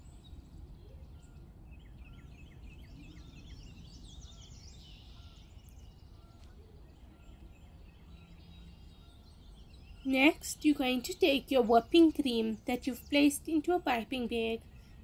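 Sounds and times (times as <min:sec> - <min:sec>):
low steady background noise: 0:00.0 - 0:15.0
small birds chirping: 0:00.0 - 0:15.0.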